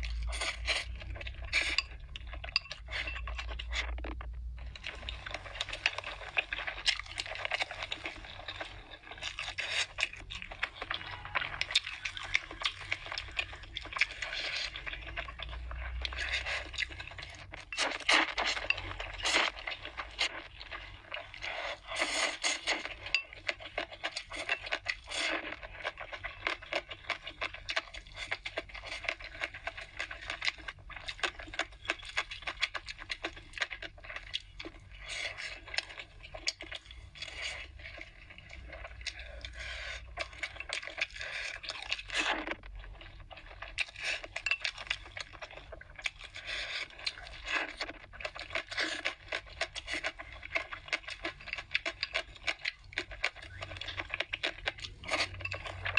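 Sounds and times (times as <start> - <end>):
wet chewing and lip smacking: 0.0 - 55.9
noodles slurped: 2.8 - 55.9.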